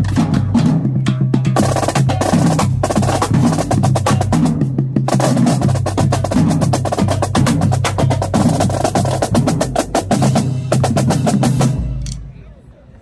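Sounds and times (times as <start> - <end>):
marching drumline cadence: 0.0 - 12.8.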